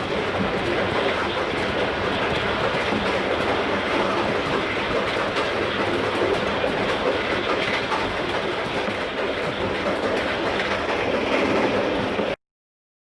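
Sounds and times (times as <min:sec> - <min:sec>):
train passing on track: 0:00.0 - 0:12.4.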